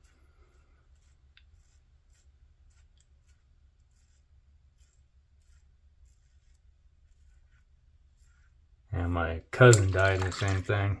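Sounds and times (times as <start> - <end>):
razor scraping stubble: 0.0 - 10.9.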